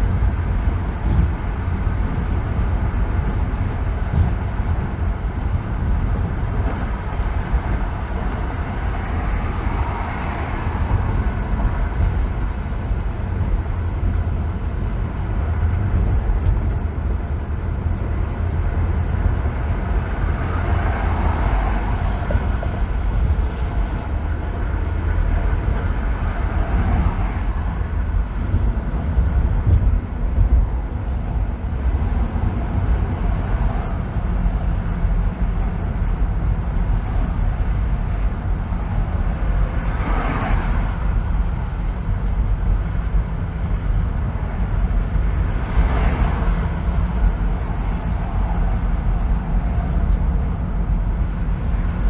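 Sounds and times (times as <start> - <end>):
car tyre road noise: 0.0 - 52.0.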